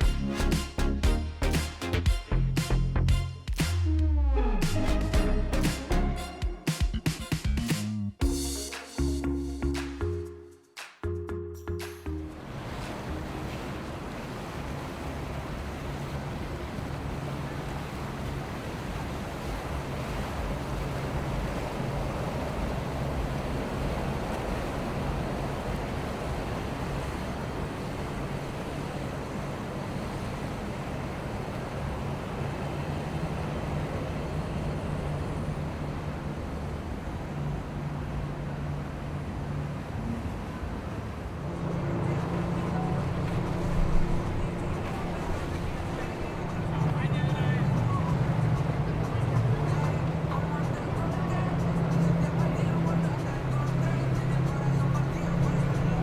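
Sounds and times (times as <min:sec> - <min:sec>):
water rushing: 0:00.0 - 0:10.2, 0:11.8 - 0:56.0
boat engines humming: 0:00.0 - 0:56.0.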